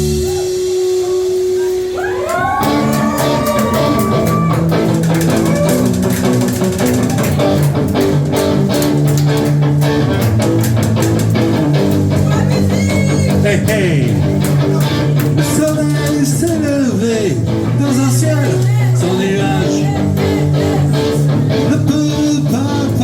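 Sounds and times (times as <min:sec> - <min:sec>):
electric guitar note bending: 0:00.0 - 0:23.0
live rock band playing: 0:00.0 - 0:23.0.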